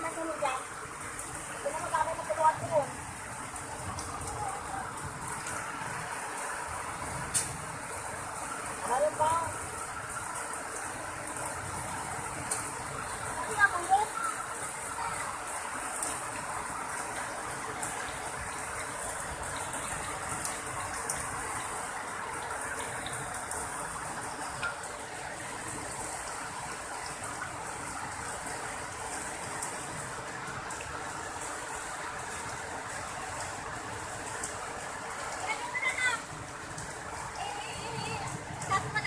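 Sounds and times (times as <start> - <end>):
heavy rain on concrete: 0.0 - 39.0.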